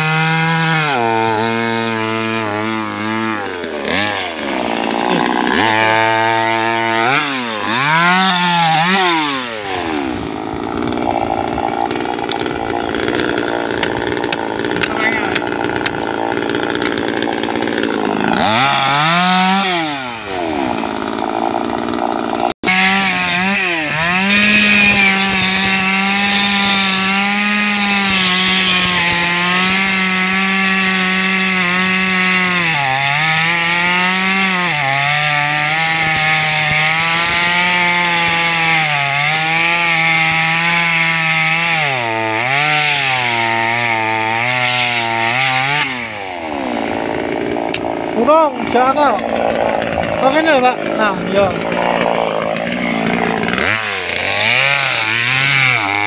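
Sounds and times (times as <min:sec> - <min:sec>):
chainsaw cutting roots: 0:00.0 - 0:56.0.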